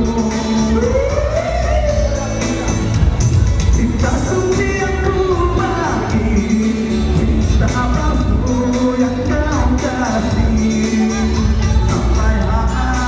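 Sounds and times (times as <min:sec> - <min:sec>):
amplified backing music: 0:00.0 - 0:13.0
man singing into microphone: 0:00.0 - 0:13.0.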